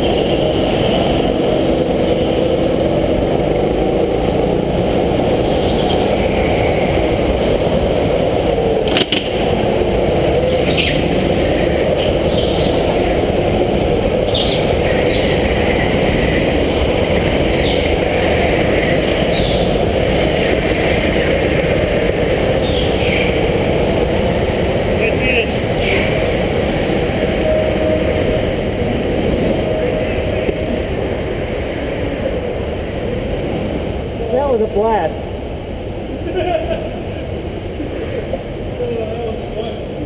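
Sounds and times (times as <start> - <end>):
go-kart engine running: 0.0 - 35.2
wind rush: 0.0 - 40.0.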